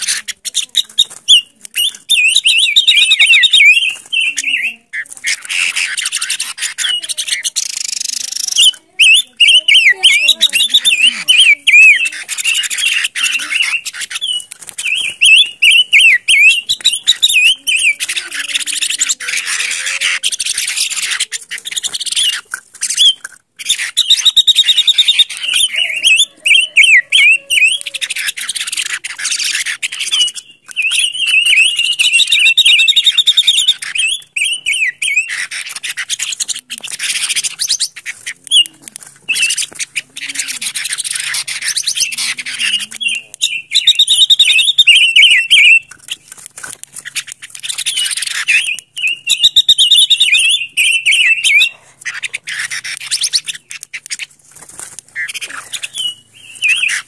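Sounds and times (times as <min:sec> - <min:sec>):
bird singing trilling phrases: 0:00.0 - 0:57.0.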